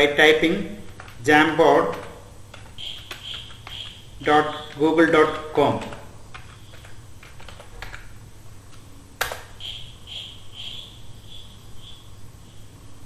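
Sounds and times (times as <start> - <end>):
faint pulsing high whine: 0.0 - 13.0
low steady hum: 0.0 - 13.0
keyboard keys tapping: 0.8 - 12.1.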